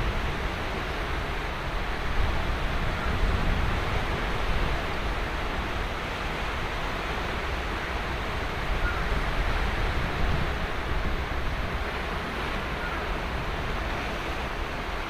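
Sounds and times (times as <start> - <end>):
ocean surf on sandy beach: 0.0 - 15.0
wind on microphone: 0.0 - 15.0.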